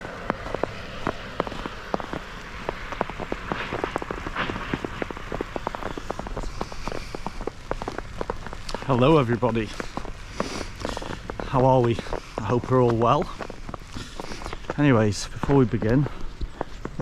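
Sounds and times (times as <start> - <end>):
snow pattering: 0.0 - 17.0.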